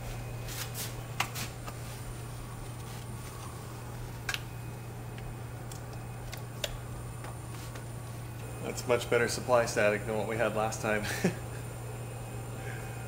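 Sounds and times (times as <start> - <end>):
blower humming: 0.0 - 13.0.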